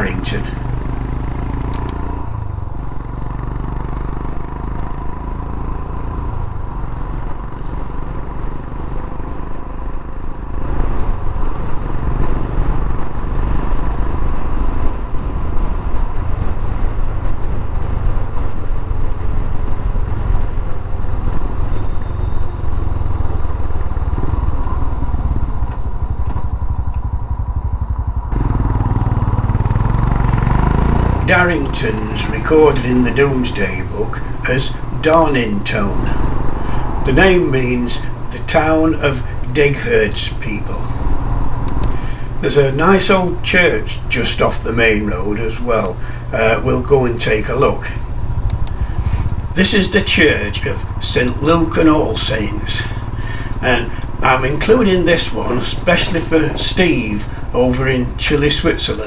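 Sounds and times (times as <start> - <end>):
motorcycle engine running: 0.0 - 59.0
road noise: 0.0 - 59.0.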